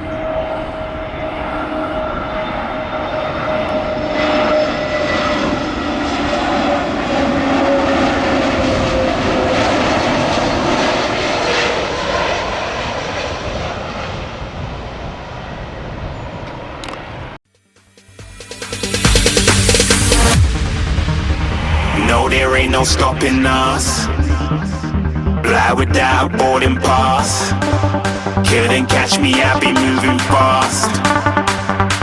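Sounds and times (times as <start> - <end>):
airliner passing overhead: 0.0 - 17.4, 18.2 - 32.0.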